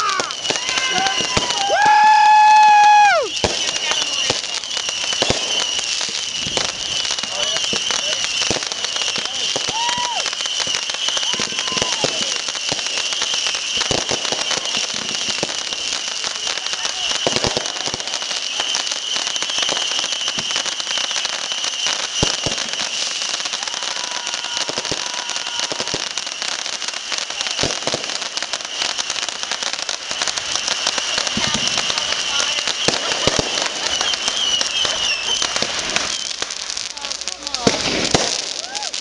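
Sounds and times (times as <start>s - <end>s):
fireworks bangs: 0.0s - 39.0s
fireworks crackling and popping: 0.0s - 39.0s.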